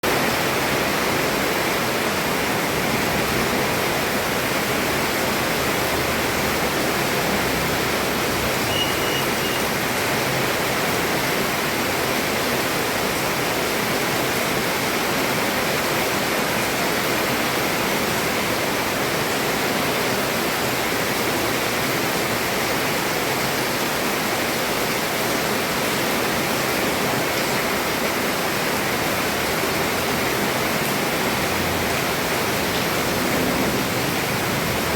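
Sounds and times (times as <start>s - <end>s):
heavy rain on a roof: 0.0s - 34.9s.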